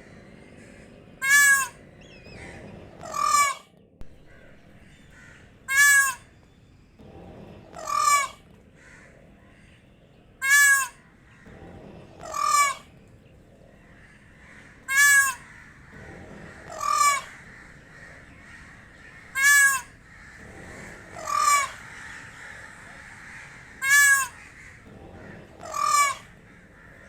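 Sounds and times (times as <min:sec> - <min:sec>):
peacock calling: 0:00.0 - 0:27.0.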